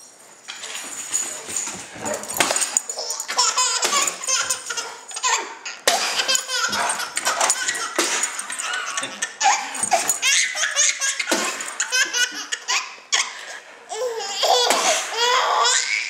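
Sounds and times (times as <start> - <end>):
baby laughing: 2.1 - 16.0.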